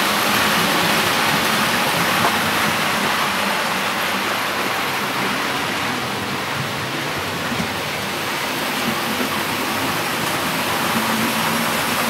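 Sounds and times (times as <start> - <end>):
model trains running on rails: 0.0 - 12.0.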